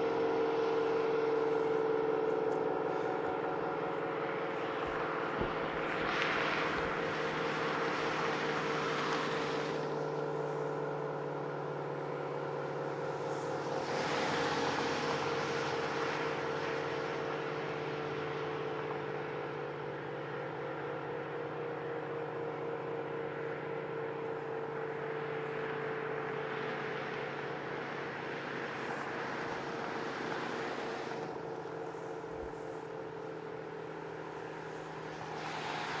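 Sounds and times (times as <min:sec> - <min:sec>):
outdoor warning siren: 0:00.0 - 0:36.0.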